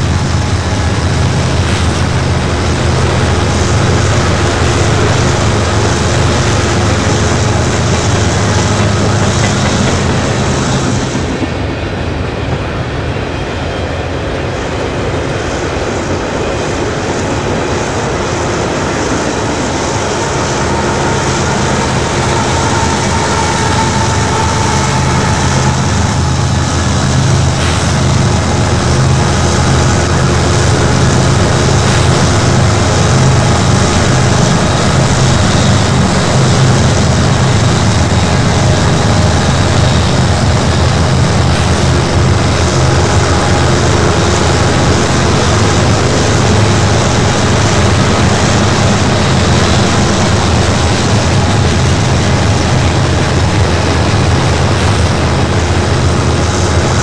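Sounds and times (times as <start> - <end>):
diesel locomotive throbbing: 0.0 - 57.0
freight cars rumbling on rails: 0.0 - 57.0.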